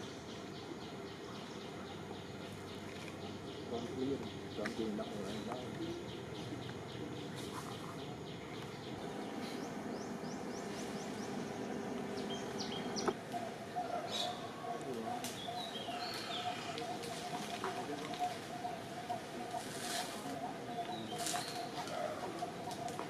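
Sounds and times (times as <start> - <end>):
small birds chirping: 0.0 - 23.0
steady background noise: 0.0 - 23.0.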